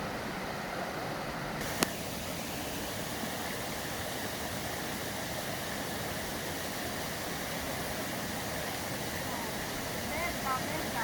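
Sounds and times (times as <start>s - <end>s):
waterfall rushing: 1.6s - 11.0s.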